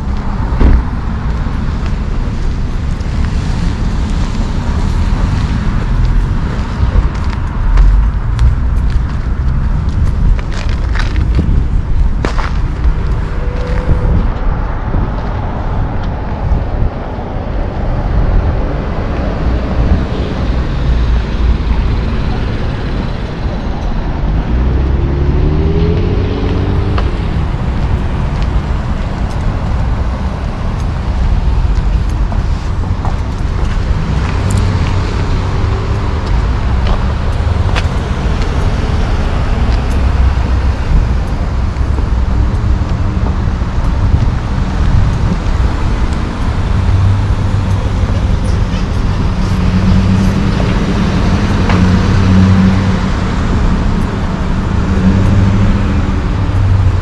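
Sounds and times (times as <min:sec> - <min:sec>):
cars passing low rumble: 0:00.0 - 0:57.0.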